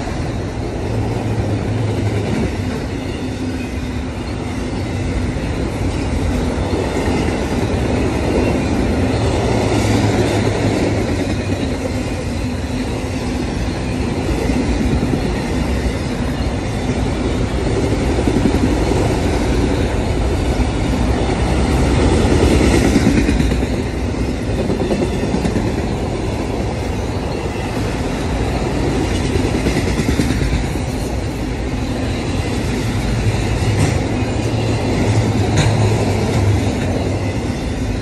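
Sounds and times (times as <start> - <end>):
freight train wheels rumbling on rails: 0.0 - 38.0.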